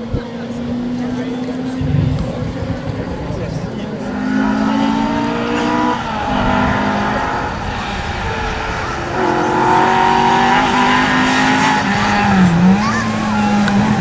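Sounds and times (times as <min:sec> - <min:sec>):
rally car engine under load: 0:00.0 - 0:14.0.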